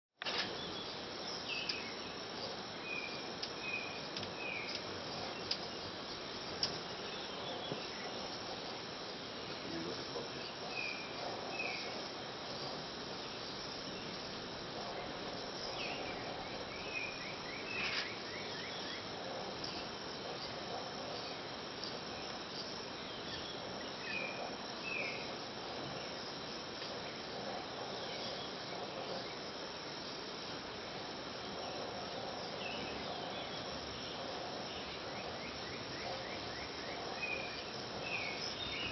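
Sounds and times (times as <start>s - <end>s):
insect chorus: 0.2s - 38.9s.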